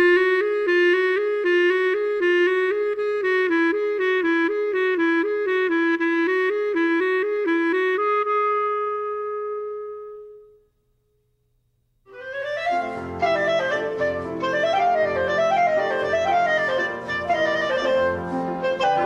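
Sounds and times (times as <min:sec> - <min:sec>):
clarinet playing: 0:00.0 - 0:10.7, 0:12.1 - 0:19.0.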